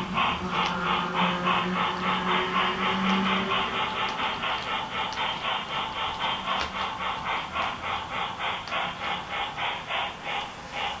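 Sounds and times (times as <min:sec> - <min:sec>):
model train wheels clicking: 0:00.0 - 0:11.0.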